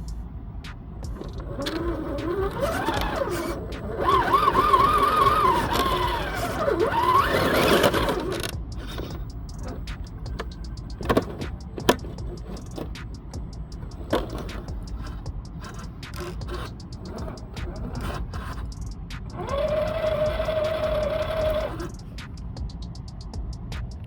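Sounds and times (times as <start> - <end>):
electric motor whining: 1.0 - 22.3.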